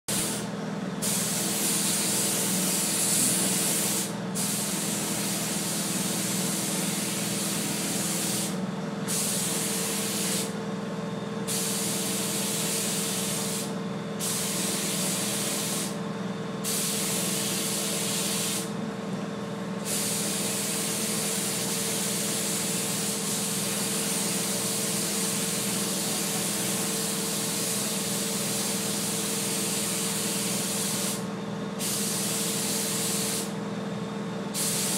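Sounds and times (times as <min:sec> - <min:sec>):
paint spray gun hissing: 0:00.1 - 0:00.4, 0:01.0 - 0:10.6, 0:11.5 - 0:16.0, 0:16.6 - 0:18.7, 0:19.8 - 0:31.2, 0:31.8 - 0:33.5, 0:34.6 - 0:34.9.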